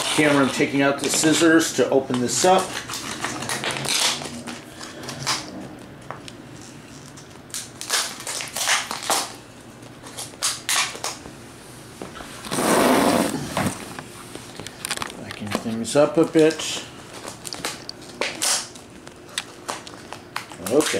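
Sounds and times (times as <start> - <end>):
package crinkling and rustling: 0.0 - 5.5, 6.1 - 11.2, 13.5 - 20.9.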